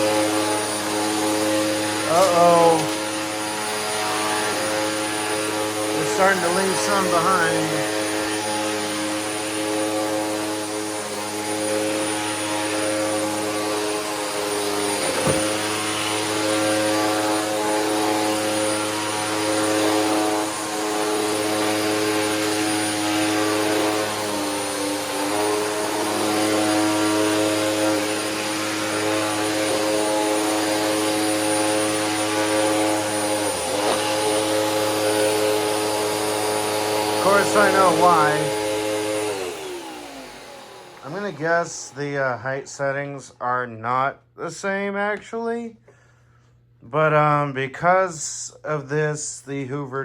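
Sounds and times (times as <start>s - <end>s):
vacuum cleaner motor whine: 0.0s - 43.2s.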